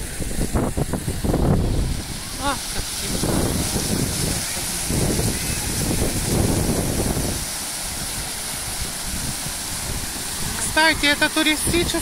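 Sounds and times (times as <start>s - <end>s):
fountain water splashing: 0.0s - 12.0s
wind buffeting microphone: 0.0s - 12.0s.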